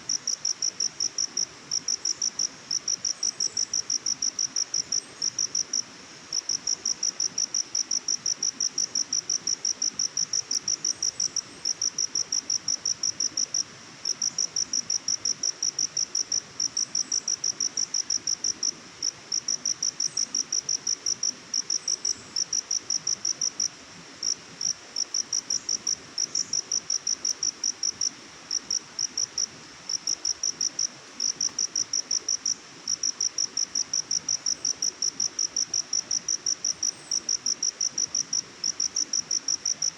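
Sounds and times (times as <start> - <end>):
faint steady hiss: 0.0 - 39.9
cricket chirping: 0.1 - 39.9.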